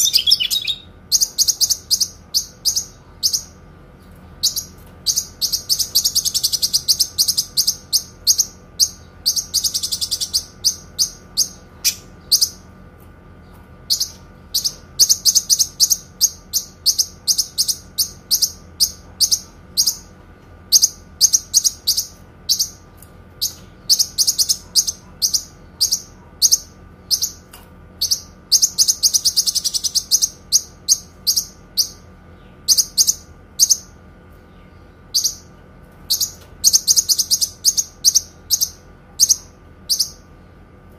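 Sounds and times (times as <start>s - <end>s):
songbird chirping and trilling: 0.0s - 40.6s.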